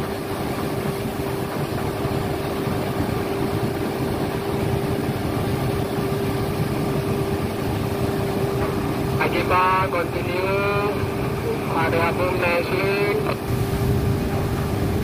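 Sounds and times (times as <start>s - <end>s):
constant high whine: 0.0s - 15.0s
crane diesel engine running: 0.0s - 15.0s.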